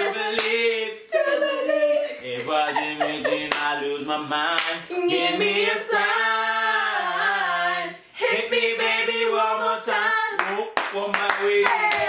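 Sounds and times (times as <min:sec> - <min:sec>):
group singing a cappella: 0:00.0 - 0:12.0.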